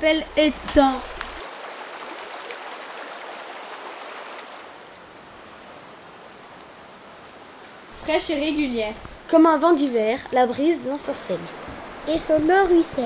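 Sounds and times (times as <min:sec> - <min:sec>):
river water rushing: 0:00.2 - 0:13.0.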